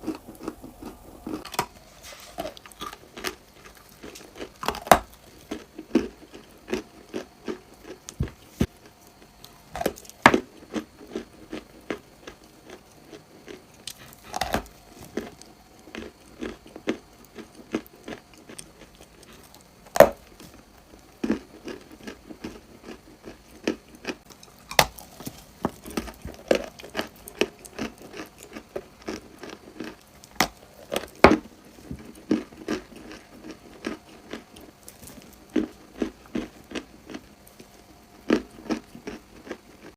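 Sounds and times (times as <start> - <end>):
crunchy biting and chewing: 0.0 - 39.9.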